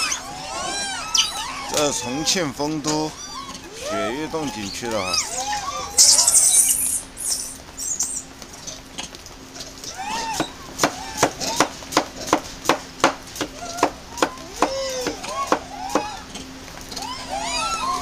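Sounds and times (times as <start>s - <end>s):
macaques giving coo calls: 0.0s - 8.3s, 9.8s - 11.8s, 13.4s - 18.0s.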